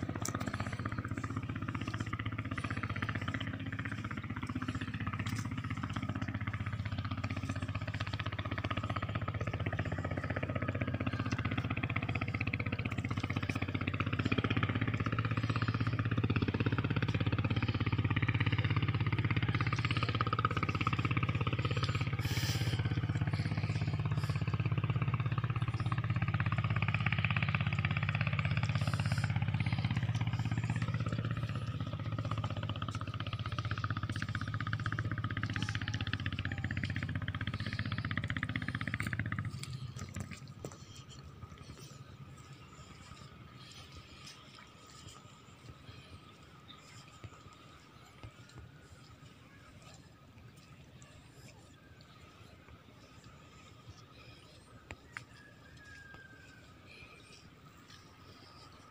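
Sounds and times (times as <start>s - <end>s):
faint crackles: 0.0s - 58.9s
low engine hum: 0.0s - 58.9s.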